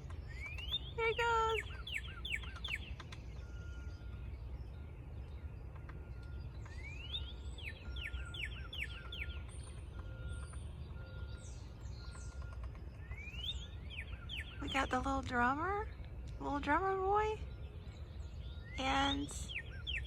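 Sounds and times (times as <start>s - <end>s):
birds whistling calls: 0.0s - 20.0s
low outdoor rumble: 0.0s - 20.0s.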